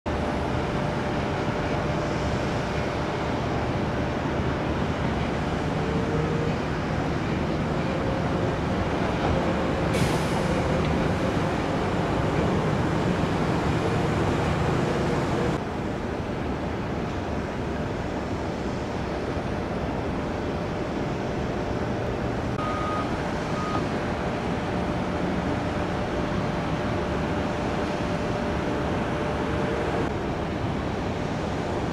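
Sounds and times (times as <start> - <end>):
jet engines running: 0.1 - 31.9.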